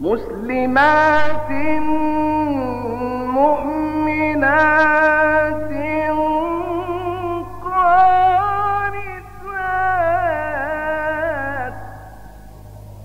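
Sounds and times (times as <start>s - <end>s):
man chanting melodically: 0.0s - 12.5s
low recording hum: 0.0s - 13.0s.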